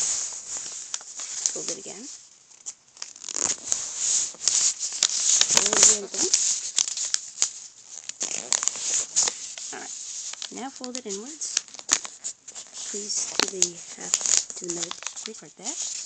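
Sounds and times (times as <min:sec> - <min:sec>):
paper folding and crinkling: 0:00.0 - 0:16.0.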